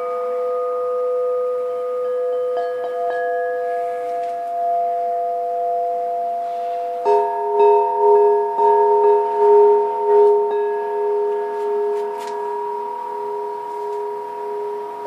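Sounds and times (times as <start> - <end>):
metal bells struck with mallet: 0.0 - 15.0.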